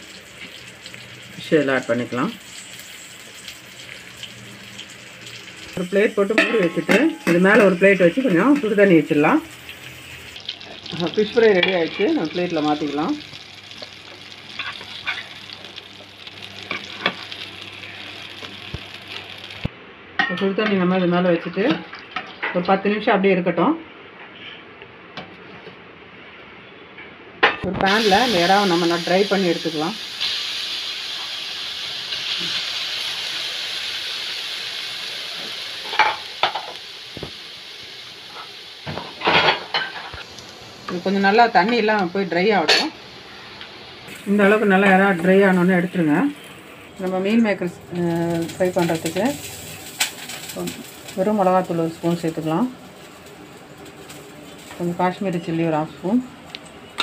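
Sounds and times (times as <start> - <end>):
fish sizzling in hot oil: 0.0 - 19.7, 27.8 - 55.4.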